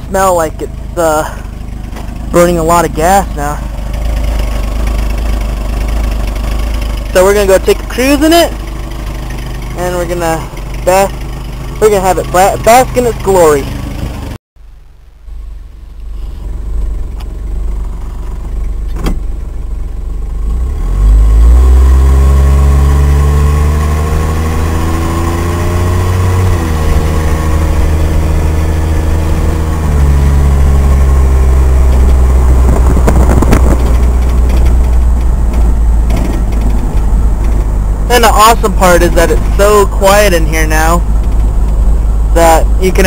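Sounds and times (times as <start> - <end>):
car engine accelerating from cabin: 0.0 - 14.4, 15.9 - 43.0.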